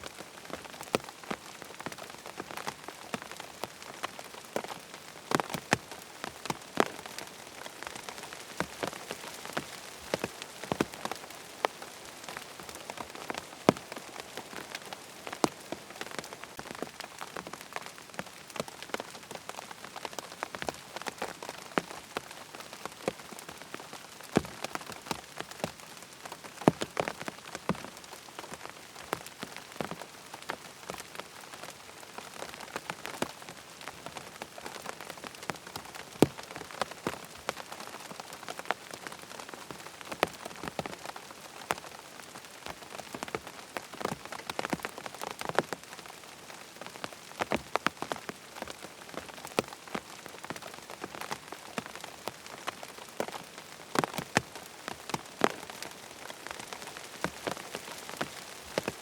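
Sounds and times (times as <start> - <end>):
rain falling on a tent: 0.0 - 59.0.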